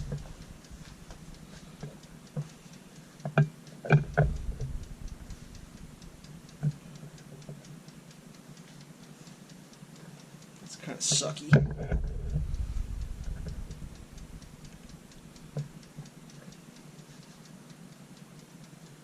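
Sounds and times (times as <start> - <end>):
steady mechanical ticking: 0.0 - 19.0.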